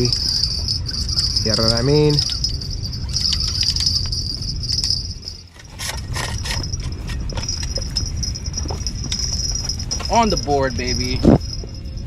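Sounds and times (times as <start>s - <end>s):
steady high whine: 0.0s - 12.0s
wind rumbling on microphone: 0.0s - 12.0s.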